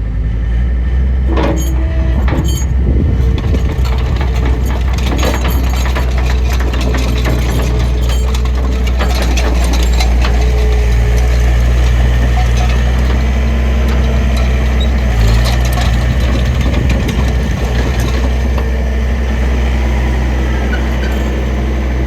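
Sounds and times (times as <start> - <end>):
diesel engine running: 0.0 - 22.0
metallic clanks and rattles: 1.2 - 22.0.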